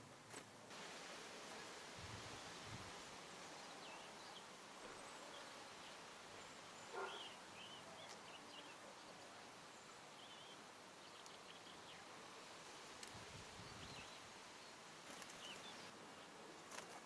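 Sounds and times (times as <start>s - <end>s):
small birds chirping: 1.6s - 17.0s.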